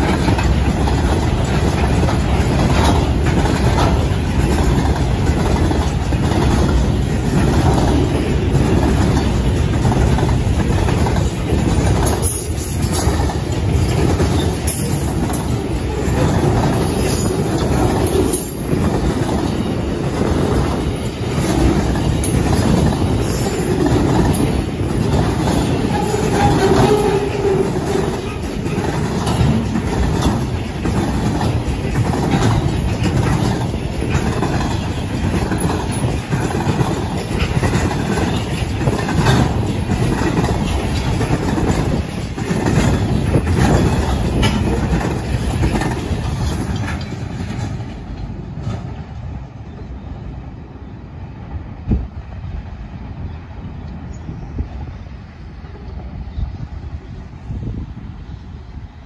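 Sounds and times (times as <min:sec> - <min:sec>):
train wheels clacking over rail joints: 0:00.0 - 0:49.8
distant train rumble: 0:00.0 - 0:59.0.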